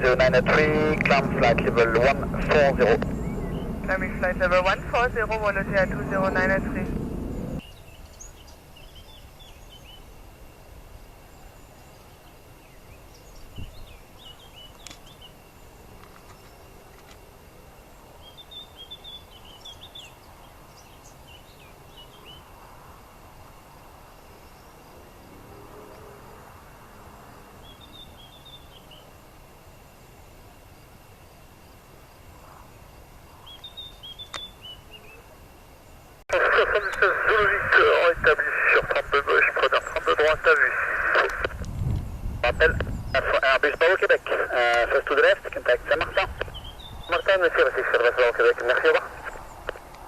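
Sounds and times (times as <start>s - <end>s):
birds twittering: 0.0s - 10.2s, 11.2s - 17.0s, 17.6s - 22.6s, 27.4s - 29.2s, 32.4s - 50.0s
low background noise: 0.0s - 50.0s.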